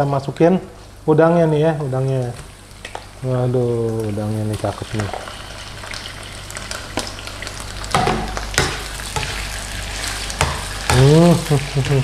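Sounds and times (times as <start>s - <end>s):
food sizzling in hot oil: 1.8s - 12.0s.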